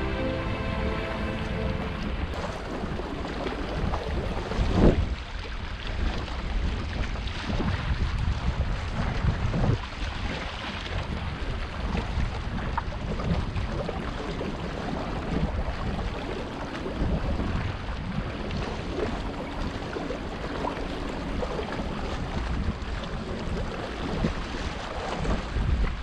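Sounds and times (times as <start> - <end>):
wind buffeting microphone: 1.8 - 26.0
waves lapping against rocks: 2.3 - 26.0.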